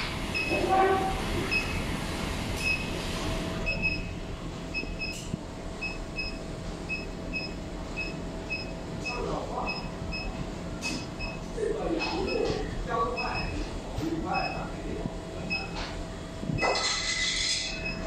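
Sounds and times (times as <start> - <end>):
furnace humming: 0.0 - 18.0.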